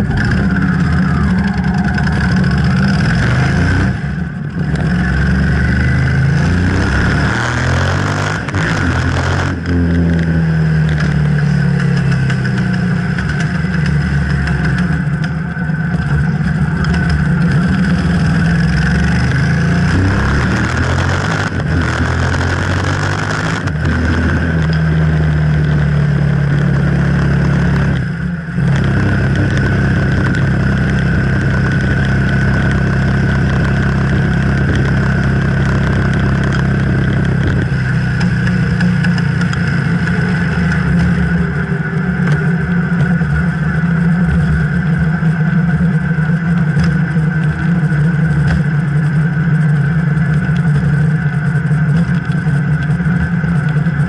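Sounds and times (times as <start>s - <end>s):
loud unmuffled motorcycle engine: 0.0s - 54.0s.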